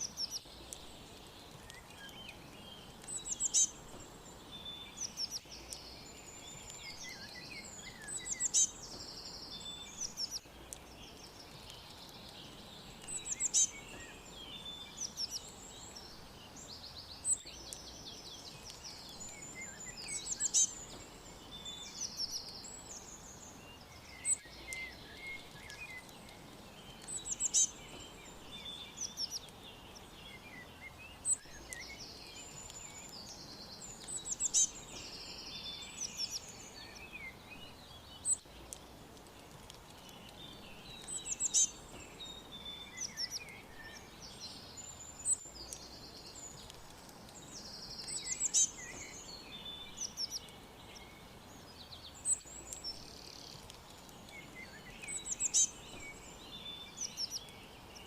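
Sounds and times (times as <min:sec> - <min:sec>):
birds chirping and singing: 0:00.0 - 0:58.0
faint steady hiss: 0:00.0 - 0:58.0.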